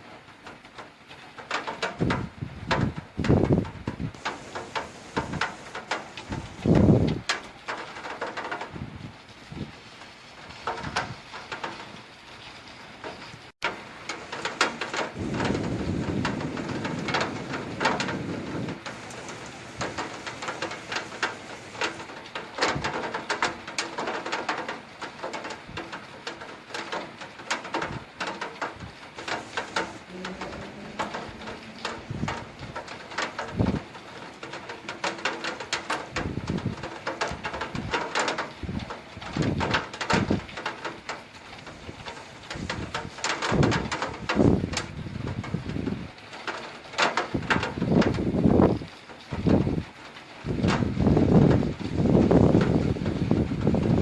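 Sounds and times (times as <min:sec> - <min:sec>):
rain taps on hard surfaces: 0:00.0 - 0:54.0
rainfall hiss: 0:00.0 - 0:54.0.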